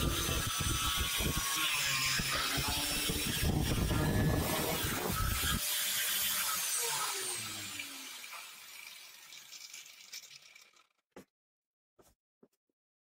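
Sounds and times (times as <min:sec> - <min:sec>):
angle grinder spinning down: 0:00.0 - 0:11.0.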